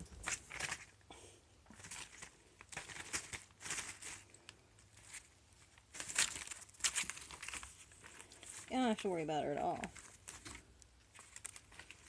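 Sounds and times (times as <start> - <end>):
kittens scuffling and scratching: 0.0 - 12.0.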